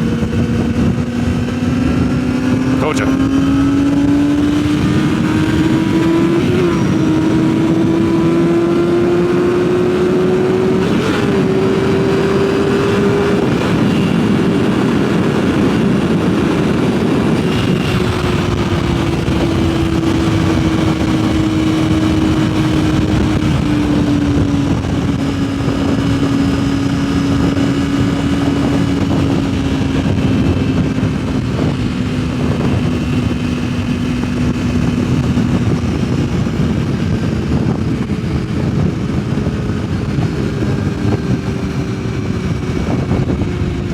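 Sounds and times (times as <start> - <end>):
motorcycle engine running: 0.0 - 43.9
wind rush on microphone: 0.0 - 43.9.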